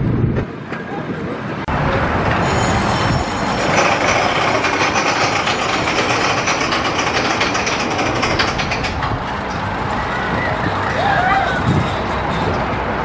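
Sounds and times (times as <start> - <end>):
roller coaster clattering on track: 0.2 - 13.0.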